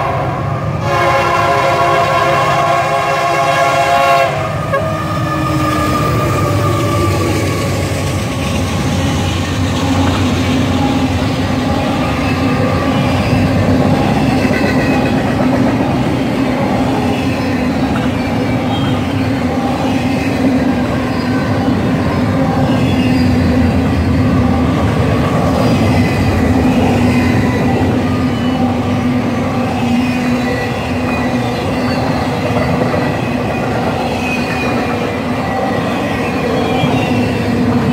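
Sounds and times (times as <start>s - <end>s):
diesel locomotive engines: 0.0s - 37.9s
train wheels rumbling on rails: 0.0s - 37.9s.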